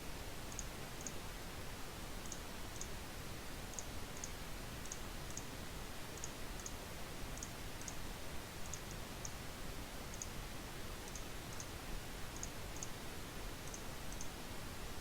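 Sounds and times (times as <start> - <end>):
low hiss and hum: 0.0 - 15.0.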